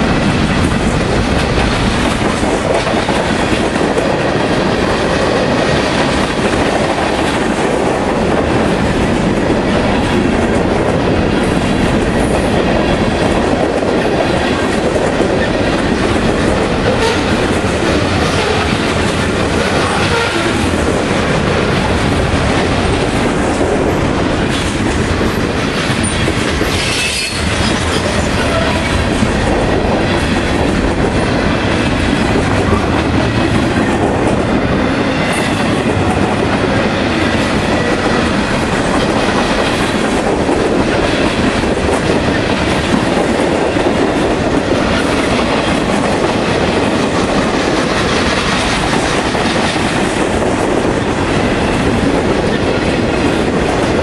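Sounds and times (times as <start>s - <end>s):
freight train wheels rolling on rails: 0.0s - 54.0s.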